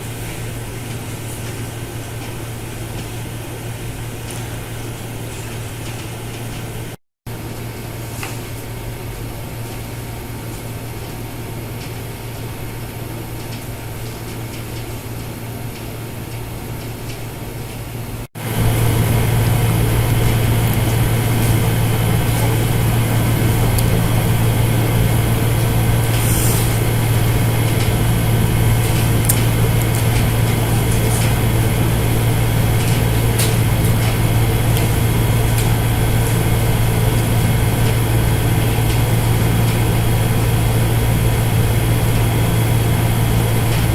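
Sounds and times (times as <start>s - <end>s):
mechanical hum: 0.0s - 43.9s.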